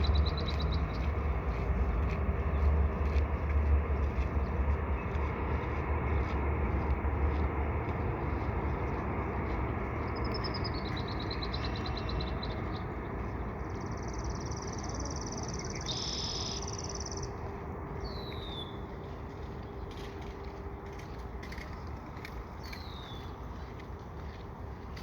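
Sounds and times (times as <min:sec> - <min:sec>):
distant train rumbling: 0:00.0 - 0:25.0.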